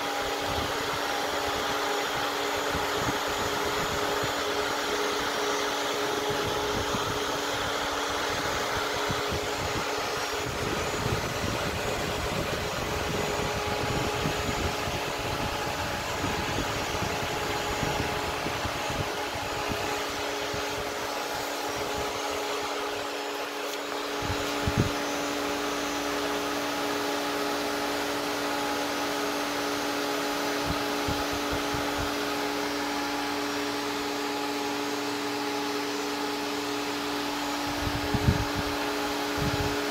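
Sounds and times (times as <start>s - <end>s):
cooling fans rushing: 0.0s - 39.9s.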